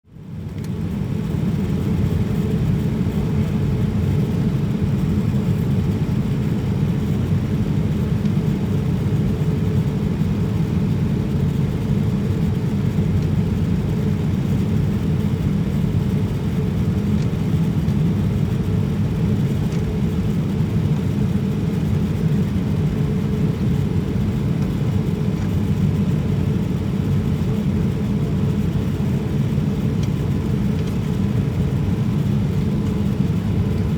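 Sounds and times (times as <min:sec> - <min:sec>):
faint steady hum: 0:00.1 - 0:33.9
airliner cabin engine rumble: 0:00.2 - 0:33.9.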